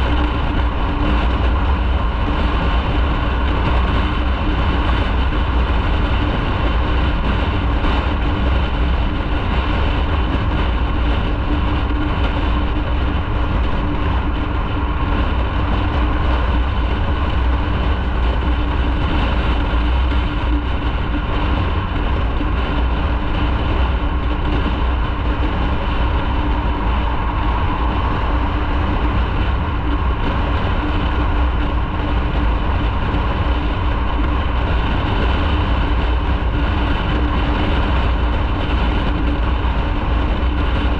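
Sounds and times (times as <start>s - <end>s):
constant low hum: 0.0s - 40.9s
motorcycle engine running: 0.0s - 40.9s
road and wind noise: 0.0s - 40.9s.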